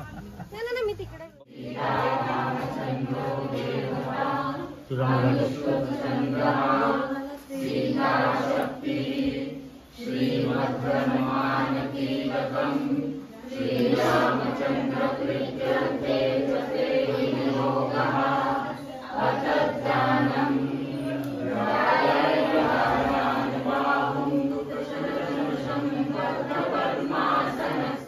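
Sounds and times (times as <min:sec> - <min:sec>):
group chanting a prayer: 0:01.4 - 0:28.0.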